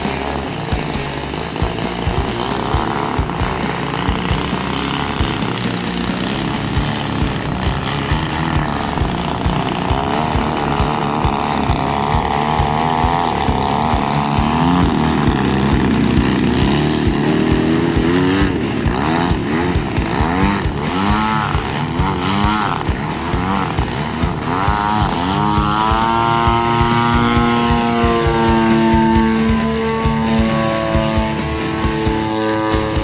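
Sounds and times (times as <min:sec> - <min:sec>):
model plane engine and propeller: 0:00.0 - 0:33.0.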